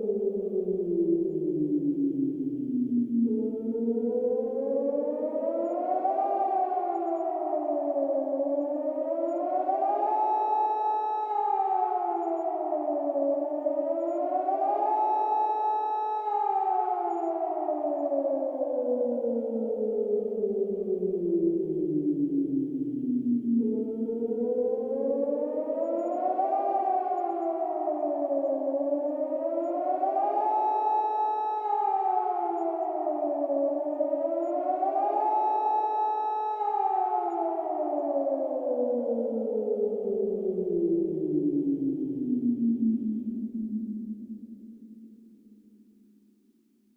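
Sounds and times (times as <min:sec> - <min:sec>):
emergency siren wailing: 0:00.0 - 0:44.3.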